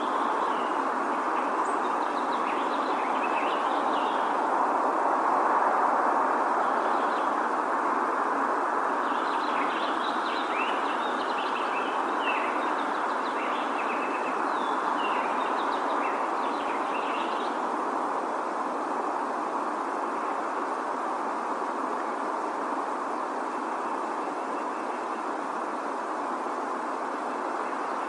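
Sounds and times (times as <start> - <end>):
small songbirds chirping: 0.0 - 28.0
steady rushing noise: 0.0 - 28.0.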